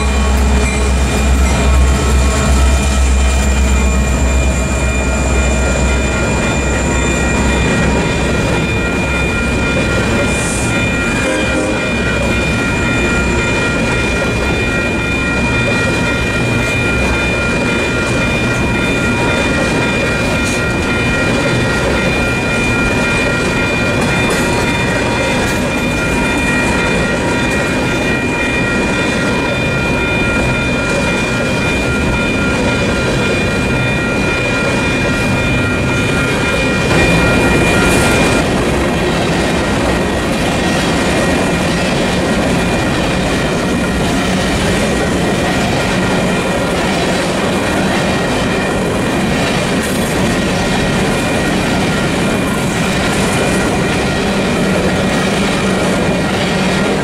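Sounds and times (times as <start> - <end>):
diesel locomotive engine rumble: 0.0 - 57.0
train wheels rumbling on rail: 0.0 - 57.0.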